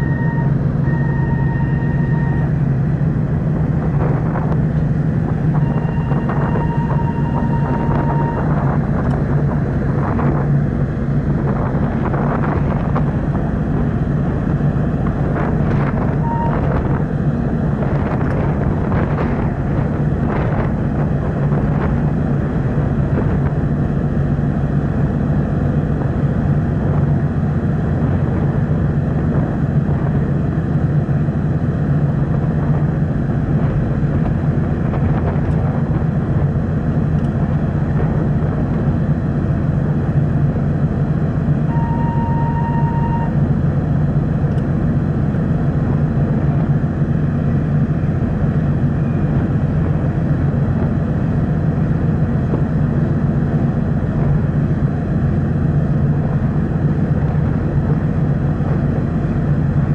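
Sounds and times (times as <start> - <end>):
ship engines droning: 0.0 - 59.9.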